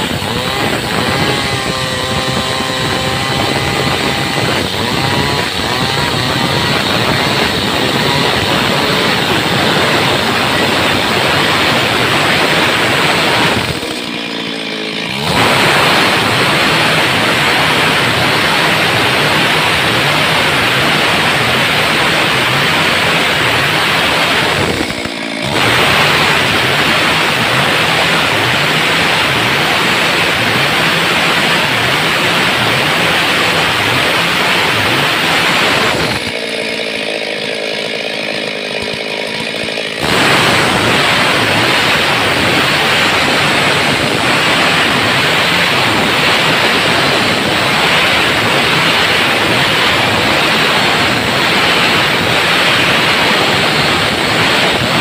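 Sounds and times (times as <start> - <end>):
chainsaw cutting timber: 0.0 - 55.0.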